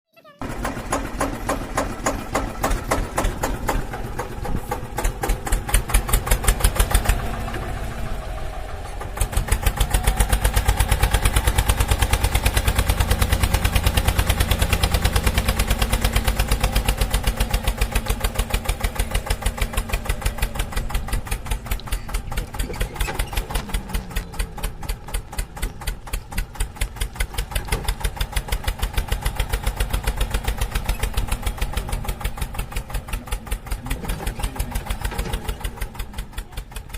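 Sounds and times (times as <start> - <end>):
small tractor engine chugging: 0.2 - 36.9.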